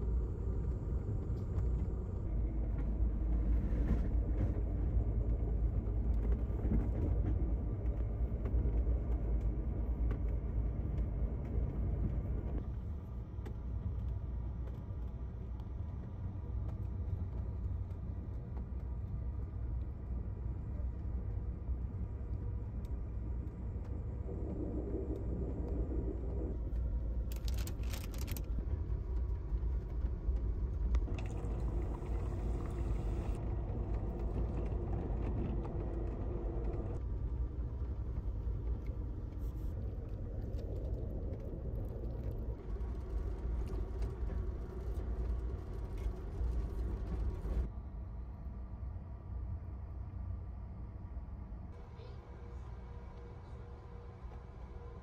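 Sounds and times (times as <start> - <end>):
train car rumbling in motion: 0.0 - 55.0.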